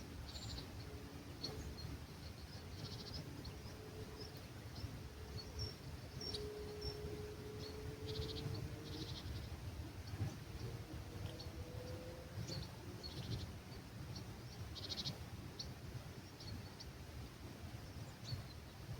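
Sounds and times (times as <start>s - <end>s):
faint drawn-out hum: 0.0s - 18.9s
low rumble of breeze: 0.0s - 18.9s.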